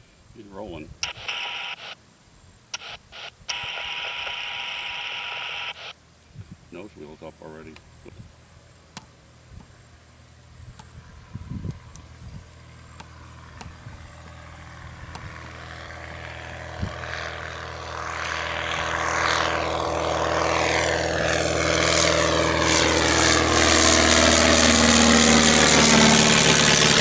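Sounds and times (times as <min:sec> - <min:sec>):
propeller plane droning: 0:00.0 - 0:27.0.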